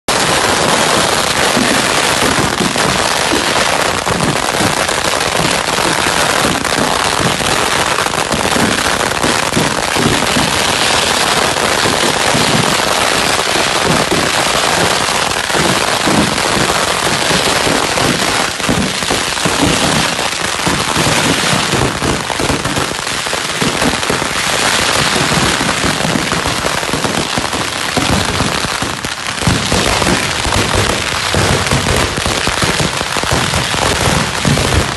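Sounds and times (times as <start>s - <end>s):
firecrackers crackling: 0.1s - 34.9s.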